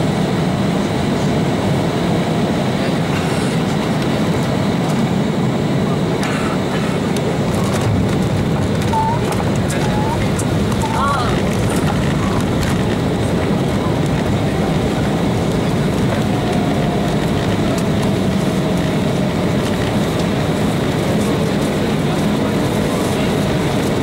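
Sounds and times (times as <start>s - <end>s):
jet engines and wheels rumbling: 0.0s - 24.0s.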